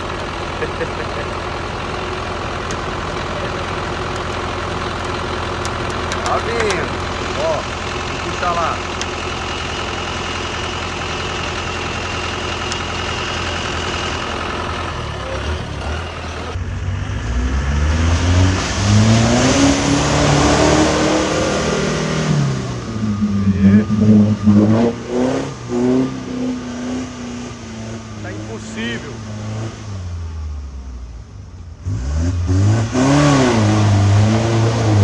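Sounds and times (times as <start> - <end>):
off-road engine revving: 0.0 - 35.0.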